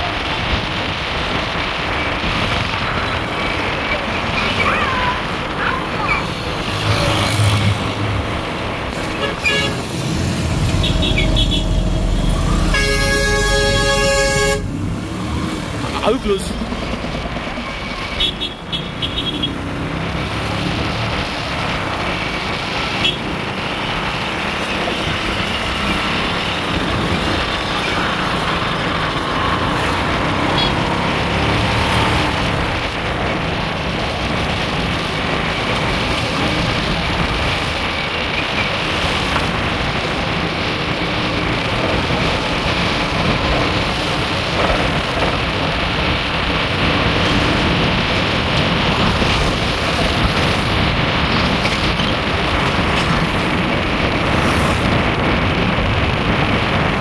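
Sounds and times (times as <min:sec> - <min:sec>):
car and motorcycle engines: 0:00.0 - 0:57.0
tyres on road: 0:00.0 - 0:57.0.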